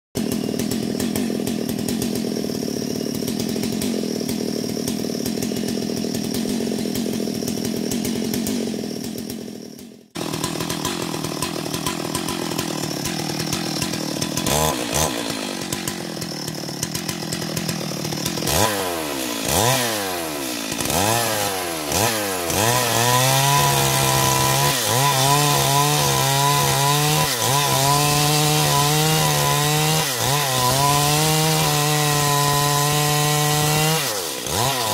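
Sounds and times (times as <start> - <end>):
chainsaw revving and cutting wood: 0.2 - 34.9.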